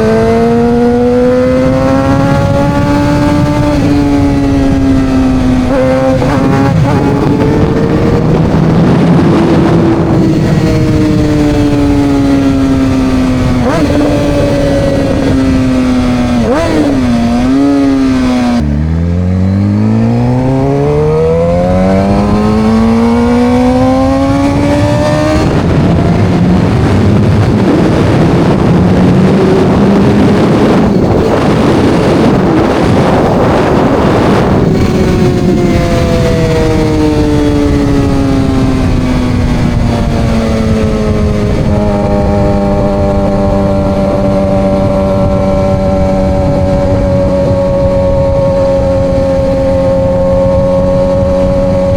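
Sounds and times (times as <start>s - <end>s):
motorcycle engine: 0.0s - 51.9s.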